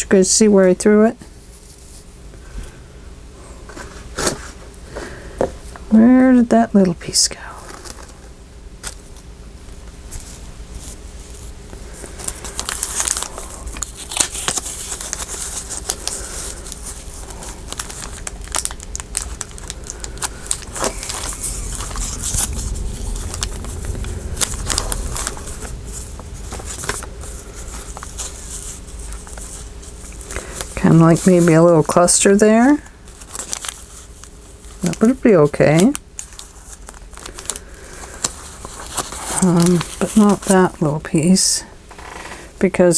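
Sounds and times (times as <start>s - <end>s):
paper rustling and crinkling: 3.6s - 5.2s, 7.4s - 42.4s.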